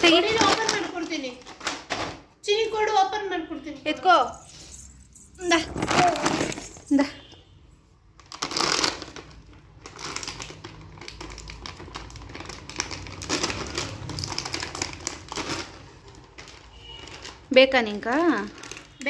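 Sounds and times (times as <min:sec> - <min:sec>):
plastic snack packet crinkling: 0:00.0 - 0:02.0, 0:04.3 - 0:07.1, 0:08.2 - 0:19.0.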